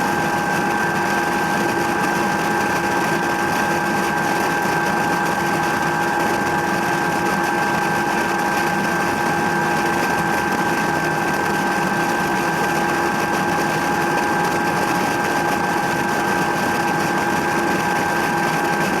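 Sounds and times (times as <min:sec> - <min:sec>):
helicopter engine and rotor noise: 0:00.0 - 0:19.0.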